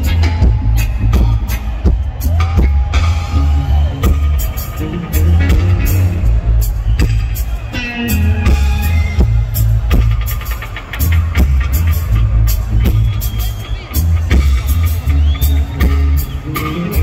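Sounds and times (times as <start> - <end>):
heavy pulsing bass line: 0.0 - 17.0
live reggae band playing: 0.0 - 17.0.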